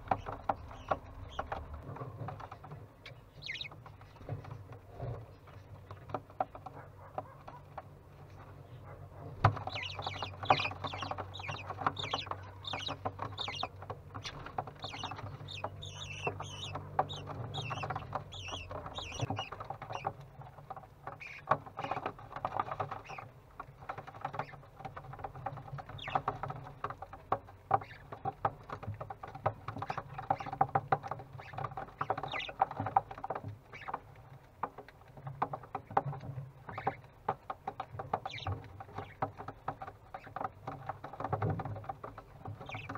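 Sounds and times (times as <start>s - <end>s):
chicks chirping and chattering: 0.0s - 42.9s.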